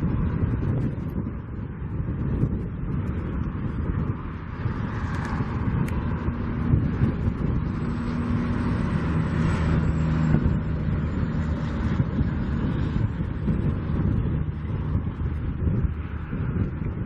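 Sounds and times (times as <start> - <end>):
low hum: 0.0 - 17.0
wind buffeting microphone: 0.0 - 17.0.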